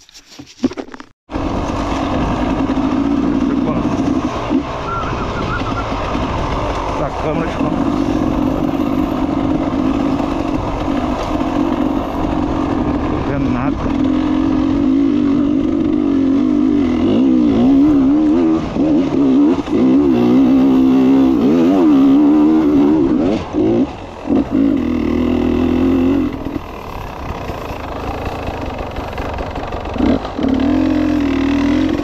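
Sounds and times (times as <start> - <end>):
dirt bike engine revving: 1.3 - 32.0.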